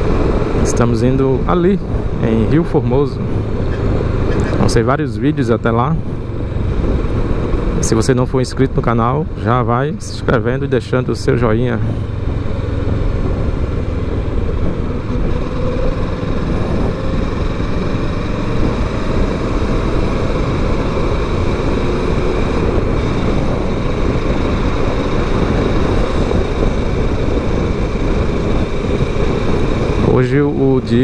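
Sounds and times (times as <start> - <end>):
motorcycle engine cruising: 0.0 - 31.0
wind and road noise: 0.0 - 31.0.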